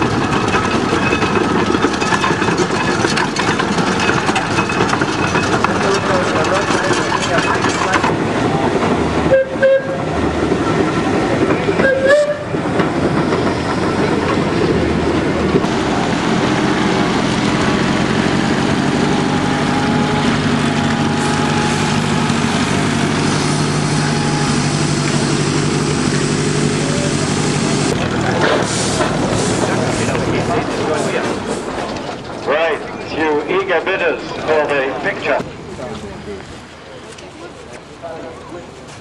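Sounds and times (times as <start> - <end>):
vehicle engine humming: 0.0 - 38.4.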